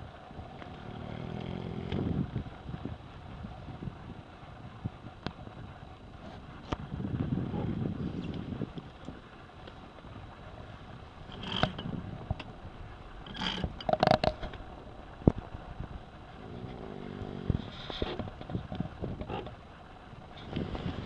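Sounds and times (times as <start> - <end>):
water: 0.0 - 21.0
wind: 0.0 - 21.0.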